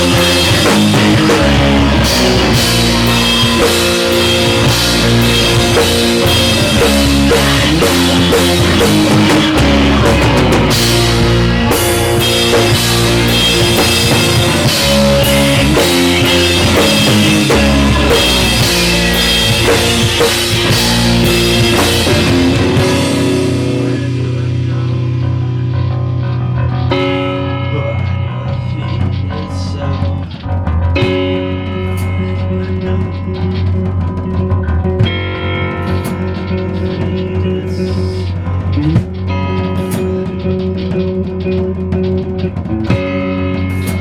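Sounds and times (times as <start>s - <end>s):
rock band playing: 0.0s - 44.0s.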